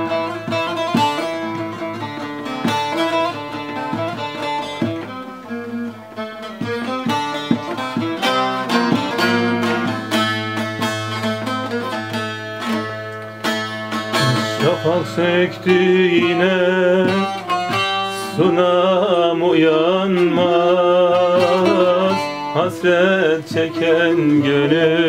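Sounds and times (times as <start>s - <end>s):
plucked long-necked lute melody: 0.0s - 25.0s.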